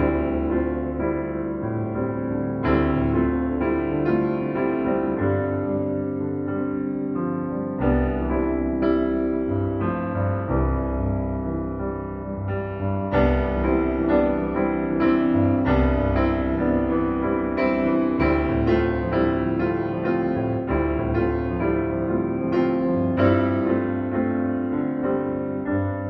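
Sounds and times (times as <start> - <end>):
background piano music: 0.0 - 26.0.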